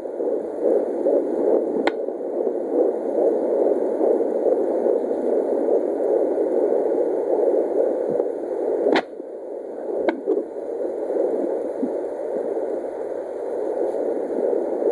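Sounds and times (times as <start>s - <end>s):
static whoosh from speaker: 0.0s - 14.9s.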